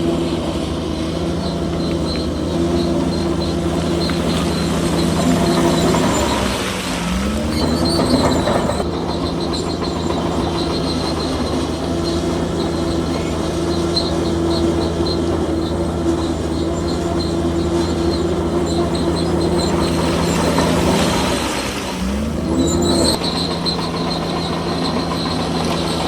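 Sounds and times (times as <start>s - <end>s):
bulldozer diesel engine: 0.0s - 26.0s
steel tracks squeaking and clattering: 0.0s - 26.0s.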